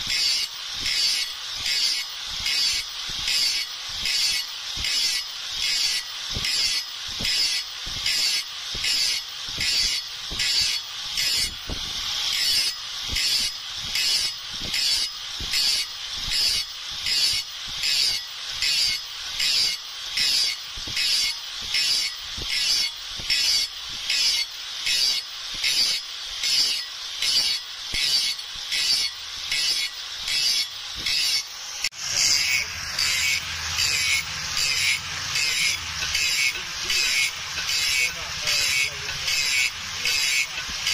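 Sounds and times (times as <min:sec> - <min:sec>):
abrasive tool scraping steel blade: 0:00.0 - 0:40.9.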